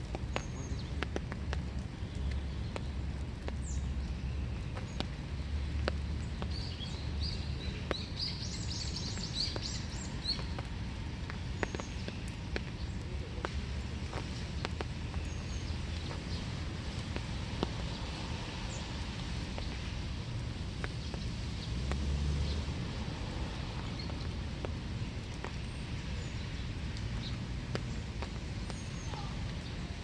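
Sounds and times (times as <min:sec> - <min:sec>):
raindrops ticking close by: 0:00.0 - 0:30.0
steady rain: 0:00.0 - 0:30.0.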